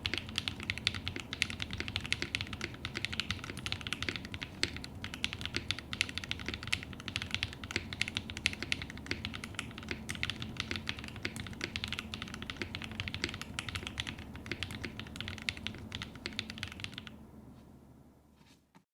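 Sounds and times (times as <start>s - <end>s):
fast mechanical keyboard typing: 0.0s - 17.2s.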